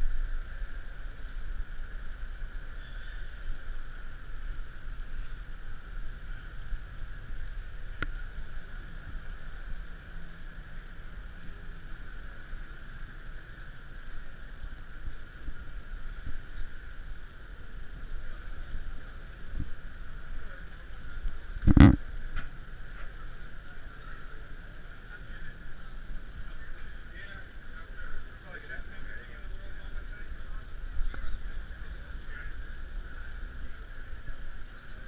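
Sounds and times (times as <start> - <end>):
steady hiss and low rumble: 0.0 - 35.0.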